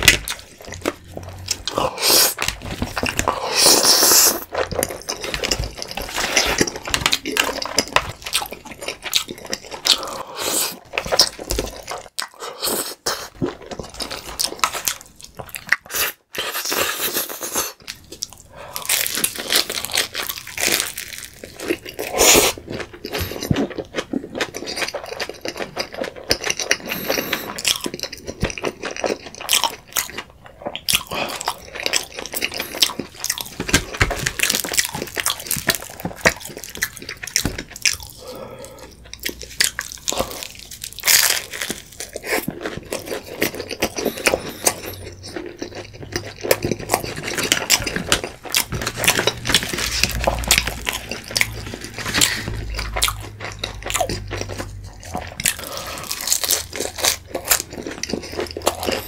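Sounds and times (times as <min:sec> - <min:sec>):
biting crispy pizza: 0:00.0 - 0:59.0
slurping and chewing pasta: 0:00.0 - 0:59.0.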